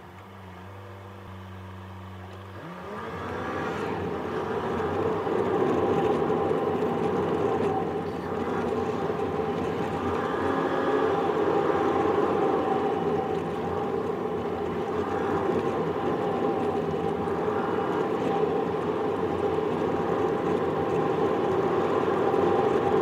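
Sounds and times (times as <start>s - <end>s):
car engine accelerating: 0.7s - 23.0s
tyre and road noise: 1.4s - 23.0s.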